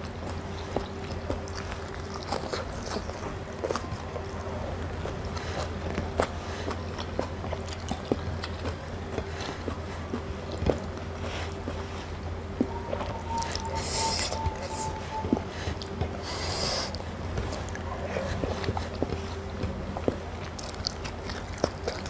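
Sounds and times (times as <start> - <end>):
low hum: 0.0 - 22.0
person chewing food: 0.0 - 22.0.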